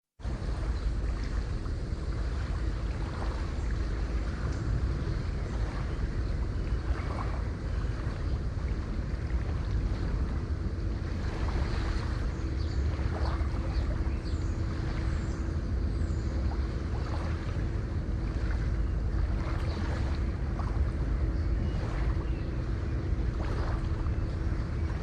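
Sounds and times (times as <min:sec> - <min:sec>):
sea waves rushing: 0:00.2 - 0:25.0.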